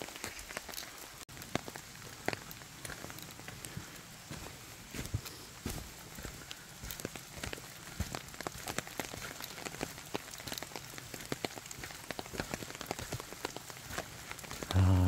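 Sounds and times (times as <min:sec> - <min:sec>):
rain drops ticking: 0:00.0 - 0:05.0, 0:05.6 - 0:15.0
steady rain hiss: 0:00.0 - 0:15.0.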